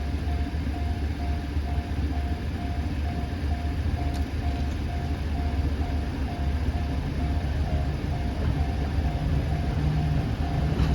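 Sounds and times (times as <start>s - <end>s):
freight train rumble: 0.0s - 10.9s
level-crossing warning bell: 0.0s - 10.9s.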